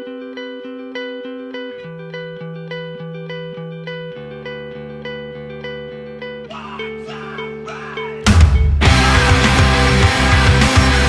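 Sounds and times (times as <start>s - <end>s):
clean guitar picking arpeggio: 0.0s - 11.0s.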